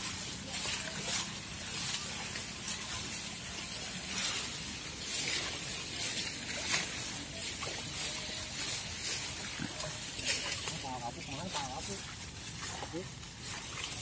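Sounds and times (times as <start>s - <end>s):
leaves rustling and swishing: 0.0s - 14.0s.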